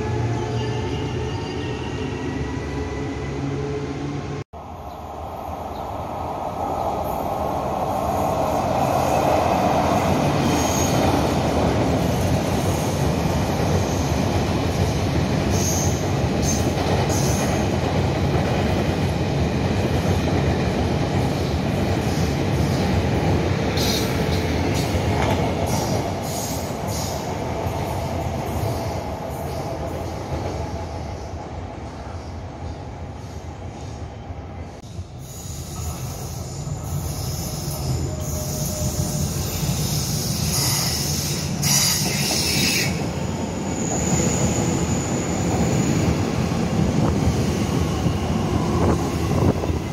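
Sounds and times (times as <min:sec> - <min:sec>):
train wheels rumbling on rails: 0:05.7 - 0:34.1, 0:34.8 - 0:49.9.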